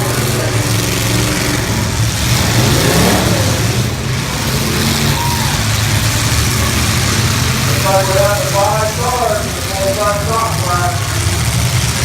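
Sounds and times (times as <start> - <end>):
car engines running loudly: 0.0 - 12.0
engine revving: 0.0 - 12.0.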